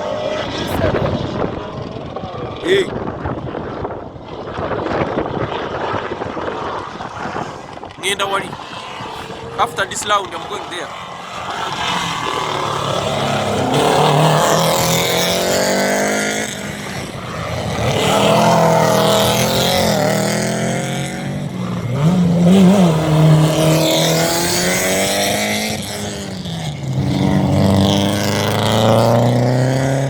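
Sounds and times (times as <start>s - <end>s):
race cars revving past: 0.0s - 30.0s.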